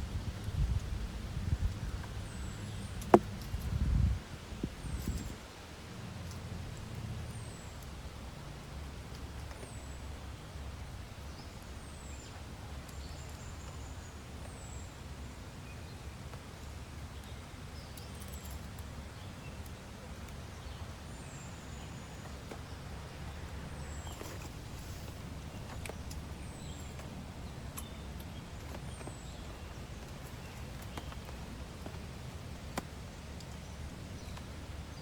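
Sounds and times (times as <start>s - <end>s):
low rumble and hiss: 0.0s - 35.0s.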